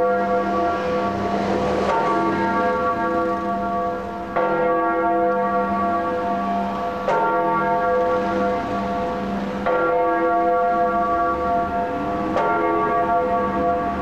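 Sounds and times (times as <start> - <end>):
large tower bell tolling: 0.0 - 14.0.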